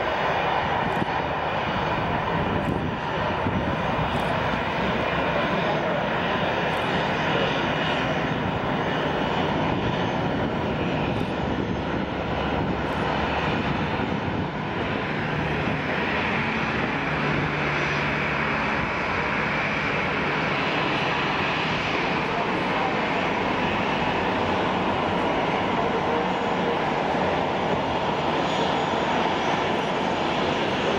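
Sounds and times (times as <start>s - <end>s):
jet engines taxiing: 0.0s - 30.9s.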